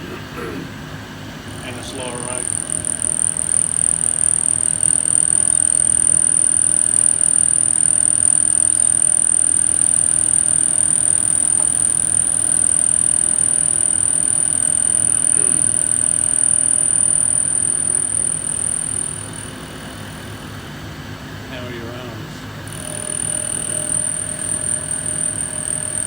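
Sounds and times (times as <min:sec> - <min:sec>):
machine hum: 0:00.0 - 0:26.0
milling machine whine: 0:00.0 - 0:26.0.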